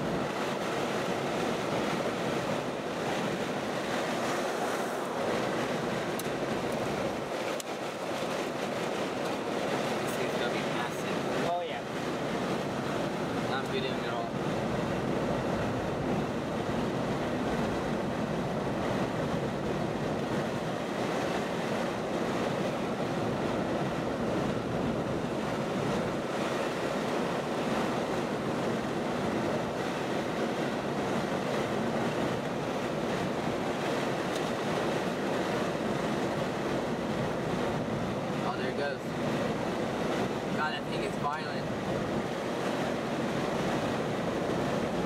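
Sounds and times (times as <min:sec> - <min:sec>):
wind blowing over microphone: 0:00.0 - 0:45.0.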